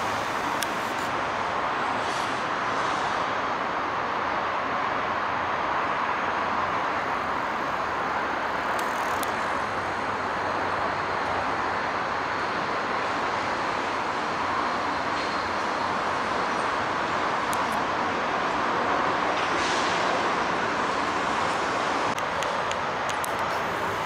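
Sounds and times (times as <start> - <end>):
distant road traffic roar: 0.0 - 24.0.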